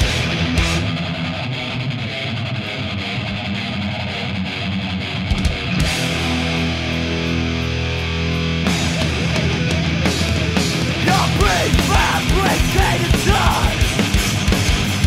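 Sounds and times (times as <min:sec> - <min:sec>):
distorted electric guitars: 0:00.0 - 0:15.0.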